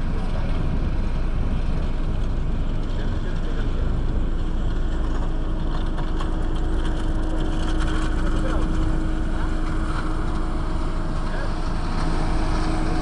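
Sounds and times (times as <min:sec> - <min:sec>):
low engine rumble: 0:00.0 - 0:13.0
steady hum: 0:00.0 - 0:13.0.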